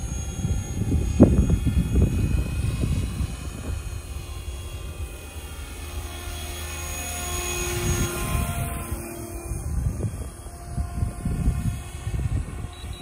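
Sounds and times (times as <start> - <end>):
model helicopter rotor whine: 0.0 - 13.0
wind rumble on microphone: 0.0 - 13.0.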